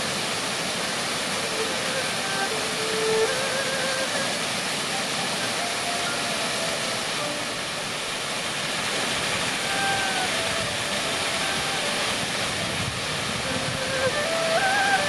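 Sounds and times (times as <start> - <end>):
water rushing over waterfall: 0.0 - 15.0.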